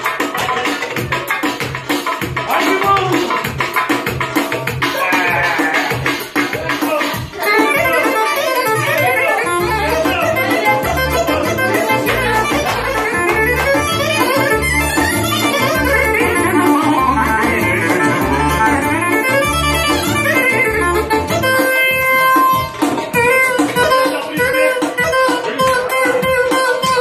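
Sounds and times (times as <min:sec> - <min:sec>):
instrumental dance music: 0:00.0 - 0:27.0.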